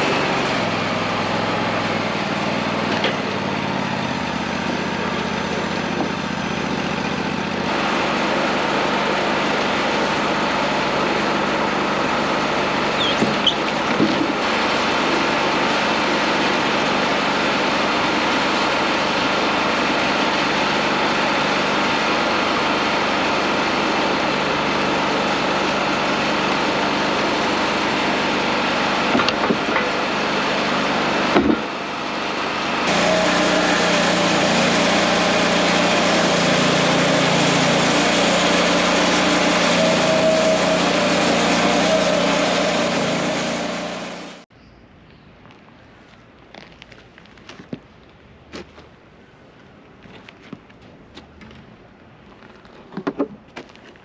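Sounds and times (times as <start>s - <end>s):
band sawmill cutting log: 0.0s - 44.5s.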